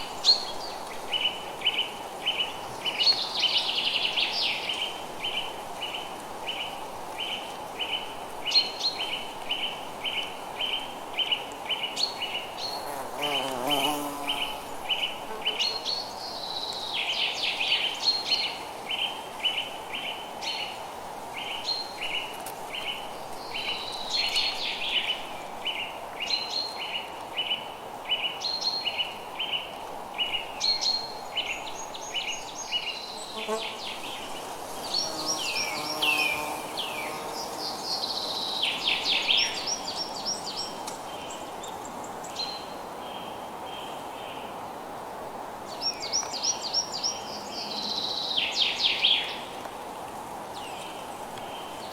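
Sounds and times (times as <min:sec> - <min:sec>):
soft even hiss: 0:00.0 - 0:51.9.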